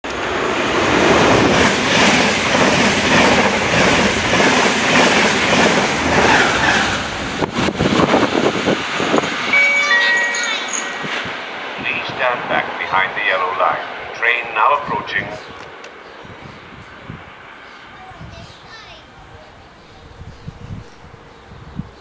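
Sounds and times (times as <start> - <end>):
passenger train passing at speed: 0.0 - 22.0.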